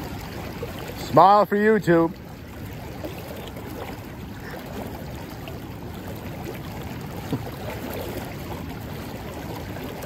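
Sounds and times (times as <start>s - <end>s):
river flowing over rocks: 0.0s - 10.0s.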